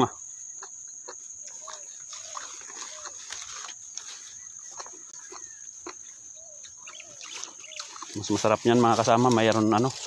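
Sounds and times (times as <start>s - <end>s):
chickens clucking: 0.5s - 10.0s.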